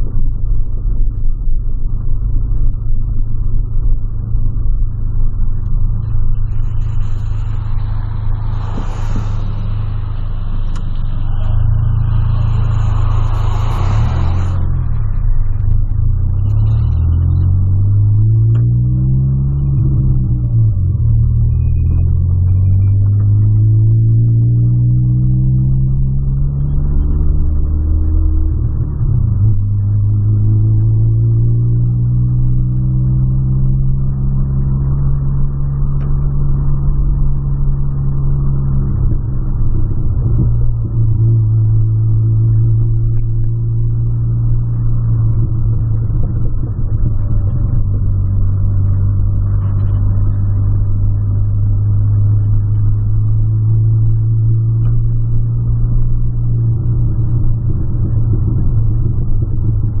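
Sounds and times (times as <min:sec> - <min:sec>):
car engine droning inside cabin: 0:00.0 - 1:00.0.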